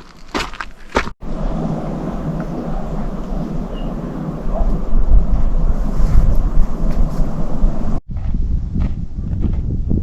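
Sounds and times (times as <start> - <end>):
wind buffeting microphone: 1.2 - 10.0.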